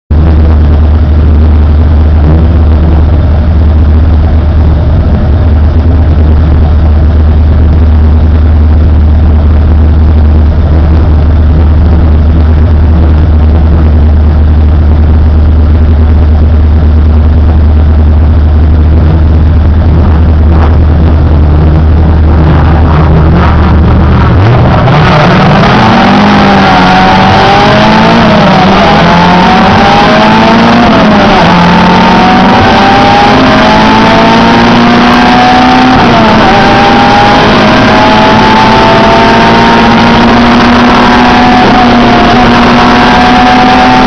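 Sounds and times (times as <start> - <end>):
car engine idling loudly: 0.0 - 44.0.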